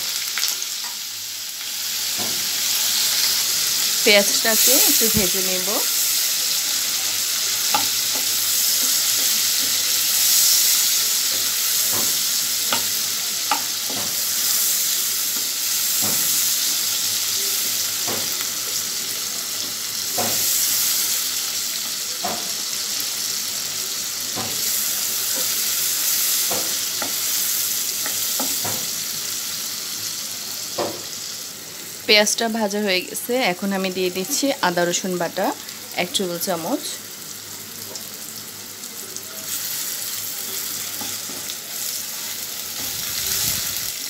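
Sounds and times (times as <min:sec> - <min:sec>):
onions sizzling in hot oil: 0:00.0 - 0:44.0.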